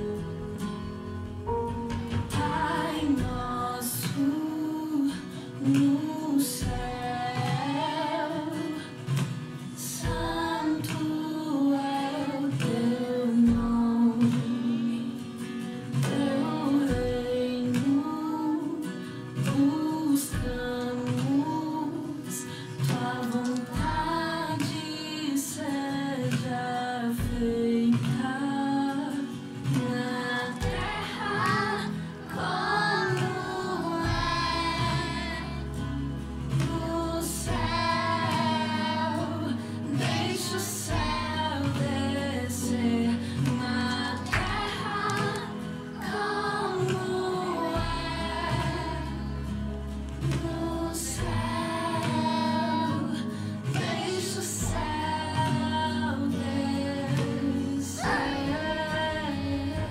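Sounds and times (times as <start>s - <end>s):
guitar: 0.0s - 59.9s
children's choir singing: 2.2s - 15.4s, 16.0s - 27.4s, 28.0s - 49.6s, 50.2s - 59.9s.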